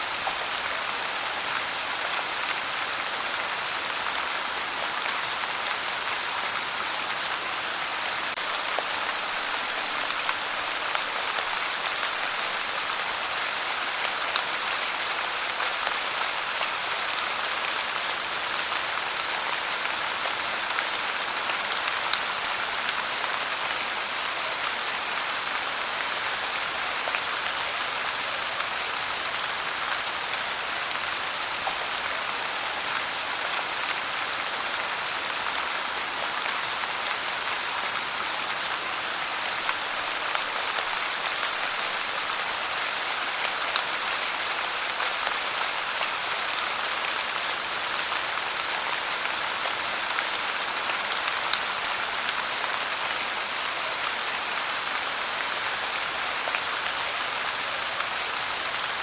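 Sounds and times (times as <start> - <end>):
pouring rain hiss: 0.0 - 59.0.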